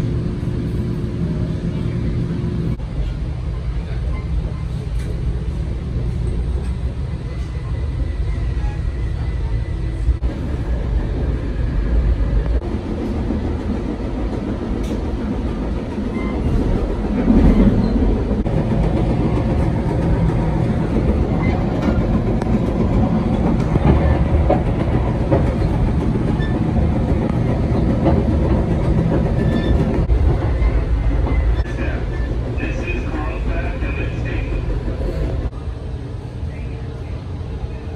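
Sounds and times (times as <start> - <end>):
train rumble and wheel clatter: 0.0 - 37.9.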